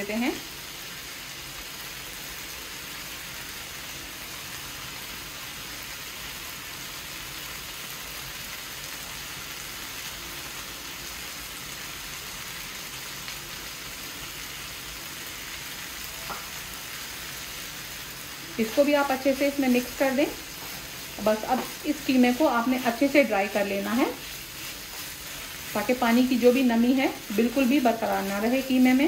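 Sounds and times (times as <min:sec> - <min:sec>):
meat sizzling in a pan: 0:00.0 - 0:29.0.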